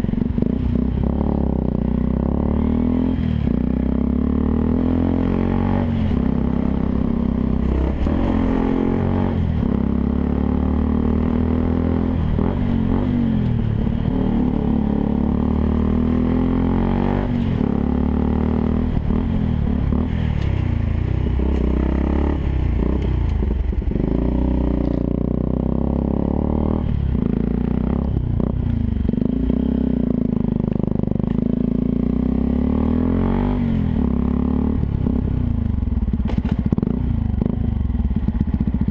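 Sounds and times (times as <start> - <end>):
motorcycle engine running: 0.0 - 33.0, 33.6 - 38.9.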